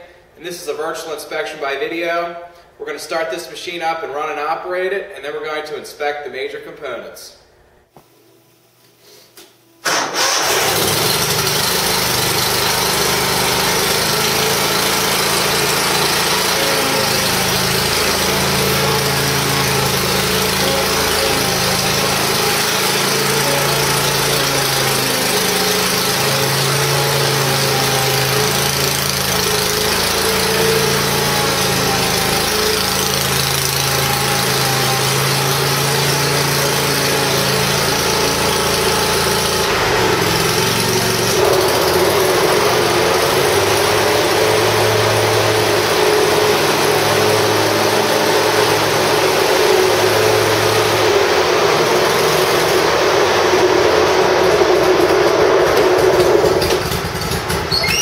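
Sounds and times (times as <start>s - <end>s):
mower engine starting and running: 9.8s - 58.0s.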